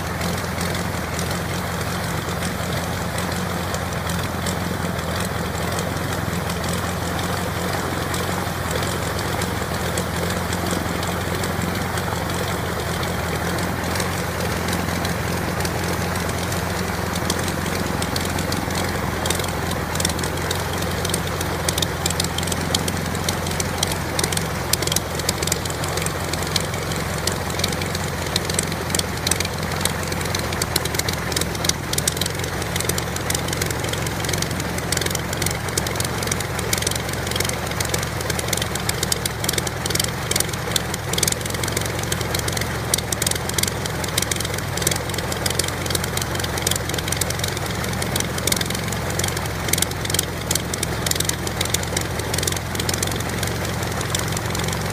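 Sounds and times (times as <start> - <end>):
propeller plane engine idling: 0.0 - 54.9.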